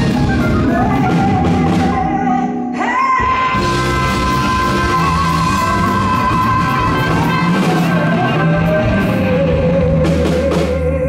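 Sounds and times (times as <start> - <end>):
blues rock band playing: 0.0 - 11.0.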